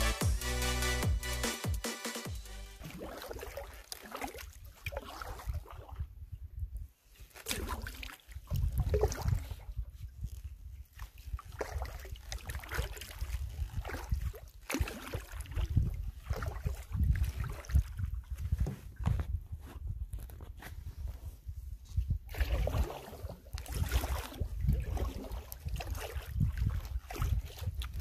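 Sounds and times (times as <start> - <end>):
water sloshing around paddle: 2.8 - 28.0
wind rumbling on microphone: 4.5 - 28.0.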